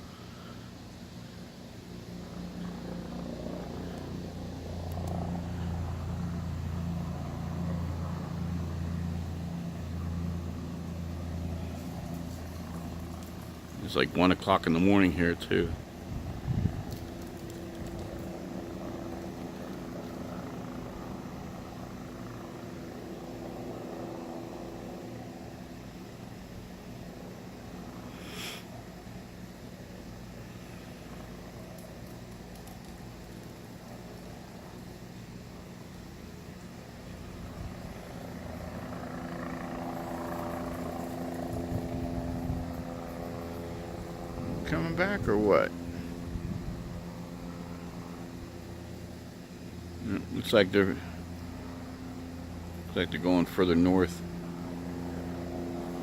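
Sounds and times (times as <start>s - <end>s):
helicopter drone: 0.0s - 56.0s
steady multi-tone hum: 0.0s - 56.0s.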